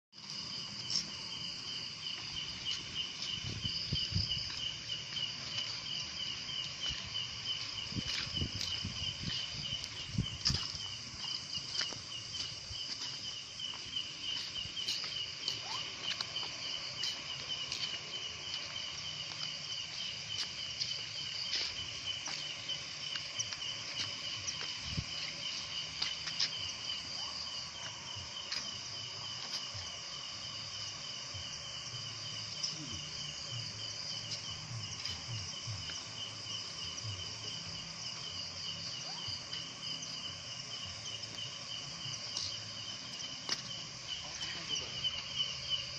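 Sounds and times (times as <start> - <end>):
insects chirring: 0.2 - 45.9.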